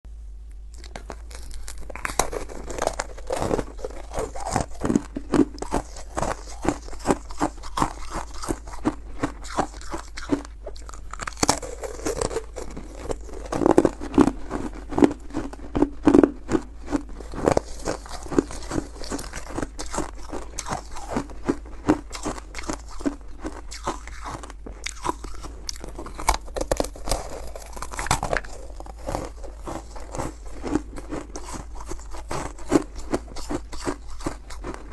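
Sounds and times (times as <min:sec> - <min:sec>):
frost being chewed crunching: 0:00.5 - 0:34.9.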